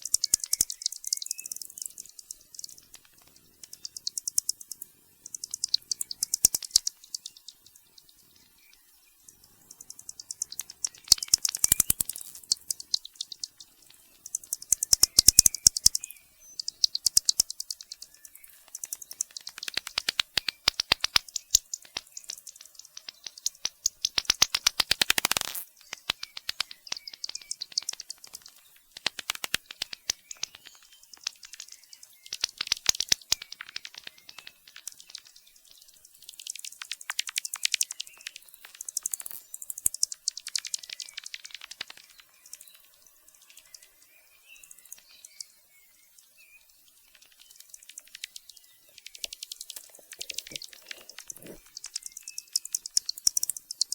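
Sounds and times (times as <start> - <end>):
bats squeaking and chittering: 0.0 - 53.9.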